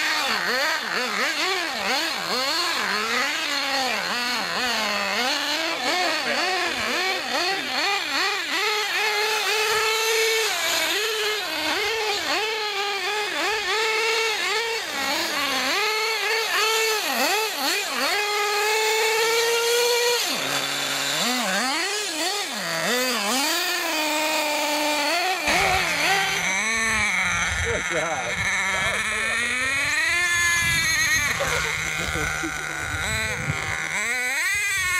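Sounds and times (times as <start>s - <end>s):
nitro engine revving: 0.0s - 34.9s.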